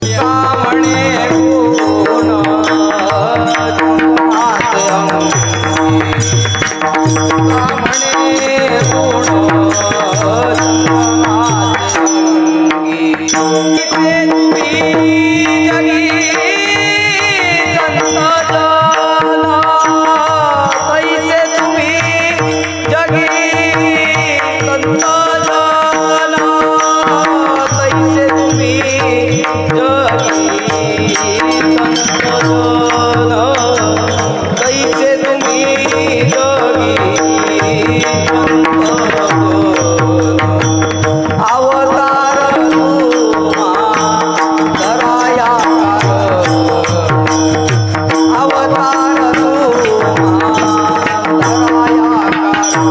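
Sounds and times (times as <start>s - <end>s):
hand drum and percussion: 0.0s - 52.9s
man singing: 0.0s - 52.9s.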